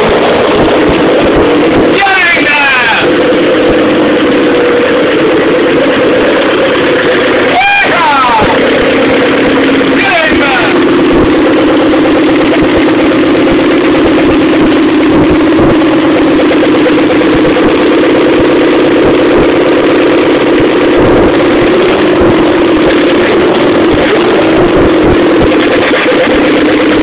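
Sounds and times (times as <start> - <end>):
car engine idling loudly: 0.0 - 27.0.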